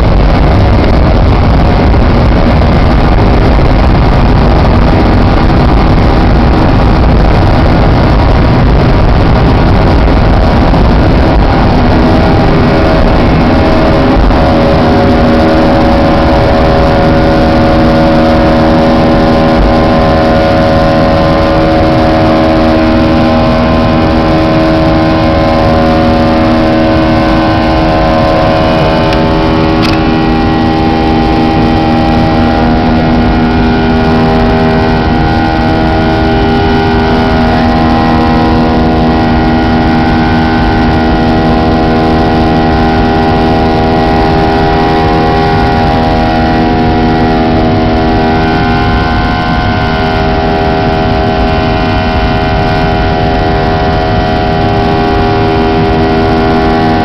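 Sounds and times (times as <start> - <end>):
engine whining tones: 0.0 - 57.0
jet engines roaring: 0.0 - 57.0.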